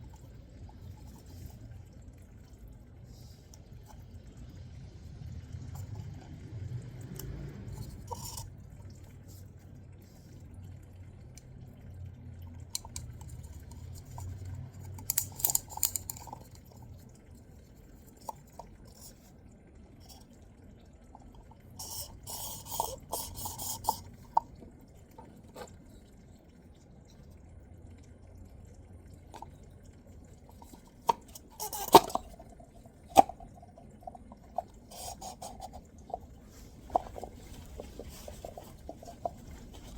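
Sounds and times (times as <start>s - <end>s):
oil dripping and trickling: 0.0s - 39.9s.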